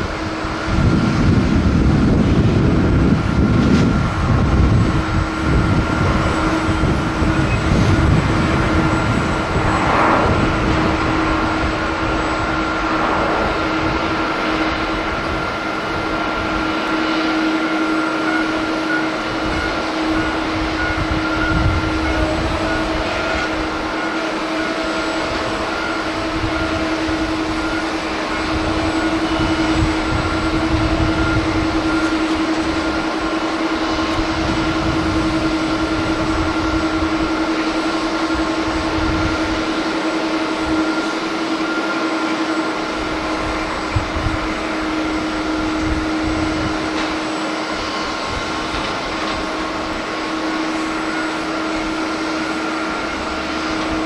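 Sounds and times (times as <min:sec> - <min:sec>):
wind rumbling on microphone: 0:00.0 - 0:41.8, 0:42.8 - 0:54.0
jet engines whining: 0:00.0 - 0:54.0.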